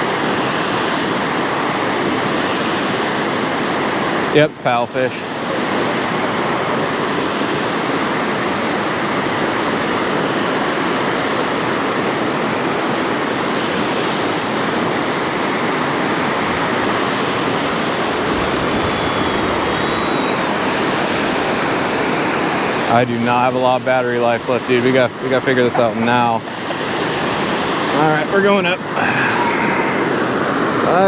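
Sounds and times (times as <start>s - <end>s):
water rushing through spillway: 0.0s - 31.0s.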